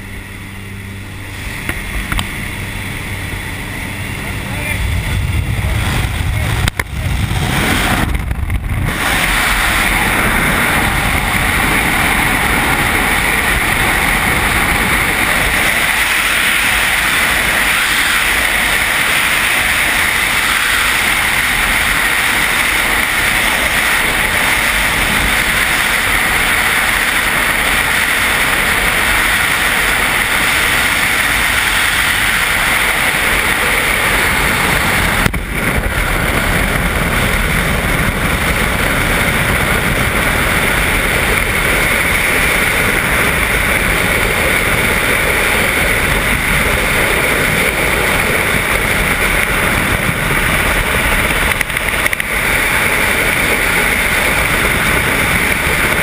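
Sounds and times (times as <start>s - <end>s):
freefall wind rushing: 0.0s - 56.0s.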